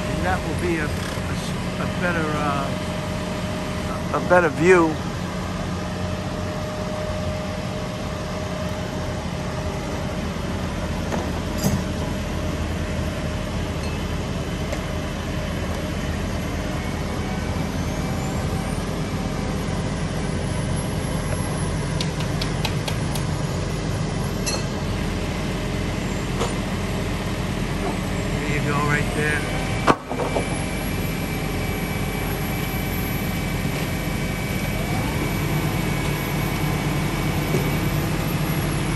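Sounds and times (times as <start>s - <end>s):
truck engines idling: 0.0s - 38.9s.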